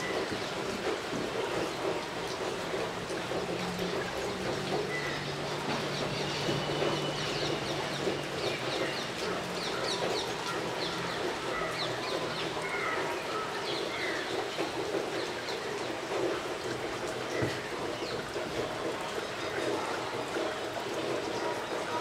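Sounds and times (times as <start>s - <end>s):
birds chirping: 0.0s - 20.7s.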